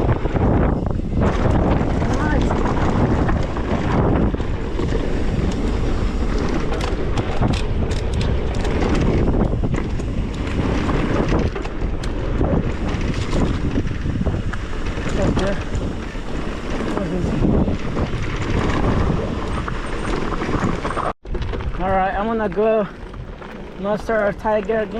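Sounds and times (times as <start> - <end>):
bike clicks and rattles: 0.0 - 24.9
tyres rumbling on dirt: 0.0 - 24.9
wind buffeting microphone: 0.0 - 24.9.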